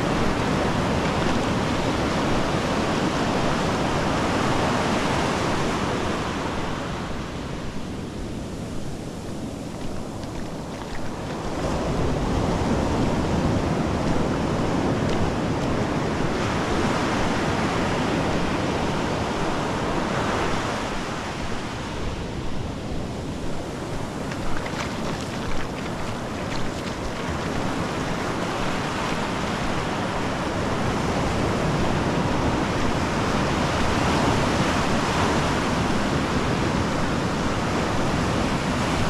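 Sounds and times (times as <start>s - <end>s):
waves breaking on beach: 0.0s - 39.0s
wind rumbling on microphone: 0.0s - 39.0s.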